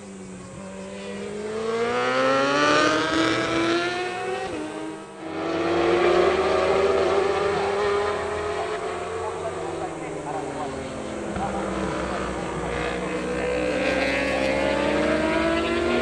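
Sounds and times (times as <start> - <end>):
motorcycle engine revving high: 0.5 - 16.0.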